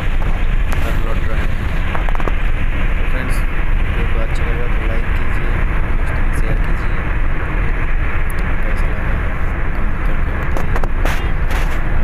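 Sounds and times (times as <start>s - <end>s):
road and wind noise in vehicle: 0.0s - 12.0s.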